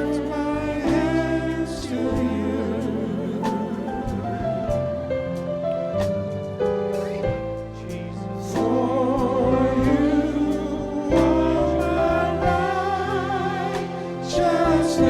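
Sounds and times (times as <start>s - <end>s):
voices singing: 0.0s - 15.0s
worship music chords: 0.0s - 15.0s.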